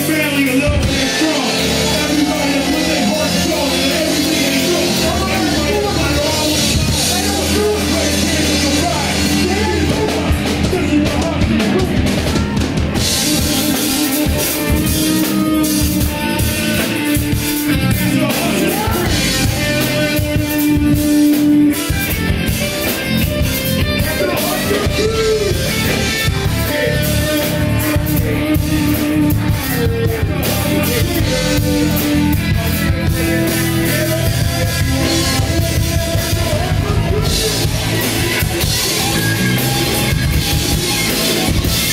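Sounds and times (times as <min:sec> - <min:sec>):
drum kit: 0:00.0 - 0:41.9
electric guitar: 0:00.0 - 0:41.9.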